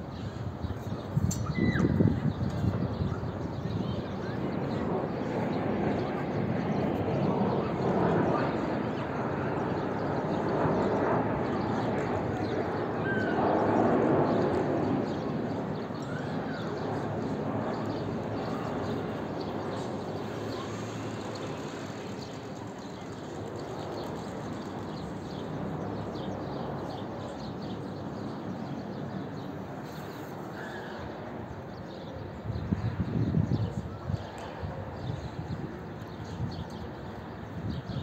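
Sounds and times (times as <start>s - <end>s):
jet airliner engines rumbling: 0.0s - 38.0s.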